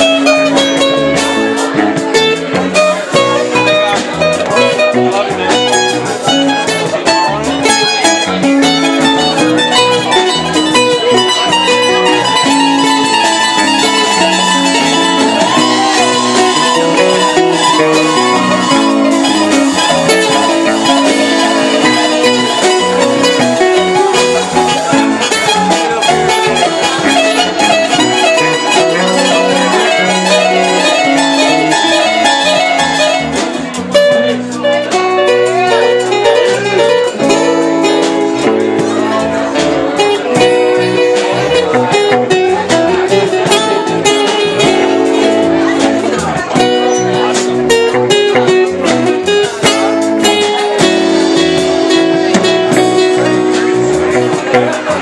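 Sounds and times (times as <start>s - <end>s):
bass: 0.0s - 55.0s
drums: 0.0s - 55.0s
live band playing loudly: 0.0s - 55.0s
picked electric guitar notes: 0.0s - 55.0s.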